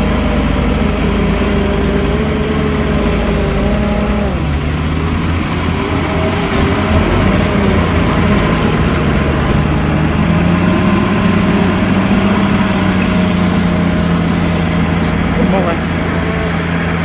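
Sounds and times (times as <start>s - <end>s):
heavy machinery diesel engine running: 0.0s - 17.0s.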